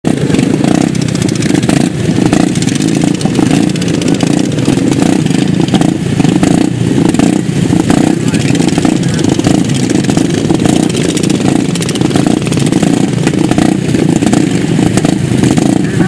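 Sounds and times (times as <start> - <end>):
small petrol engines running: 0.1 - 16.0.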